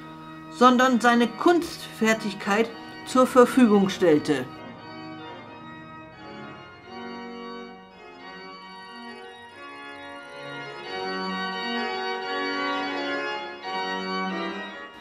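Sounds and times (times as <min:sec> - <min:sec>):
pipe organ playing chords: 0:00.0 - 0:15.0.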